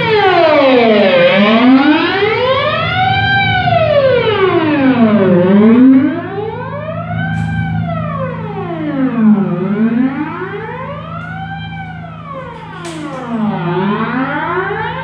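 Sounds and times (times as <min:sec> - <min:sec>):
electric guitar with flanger sweep: 0:00.0 - 0:15.0.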